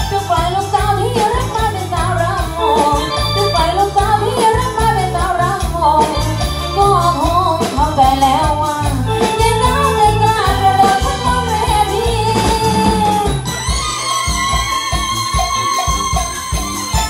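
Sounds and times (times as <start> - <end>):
person singing: 0.0 - 13.9
drum kit steady beat: 0.0 - 17.0.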